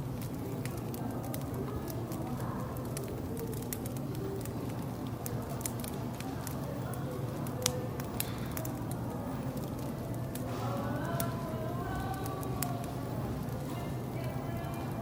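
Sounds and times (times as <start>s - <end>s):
faint cafe murmur: 0.0s - 15.0s
wood fire crackling and popping: 0.0s - 15.0s.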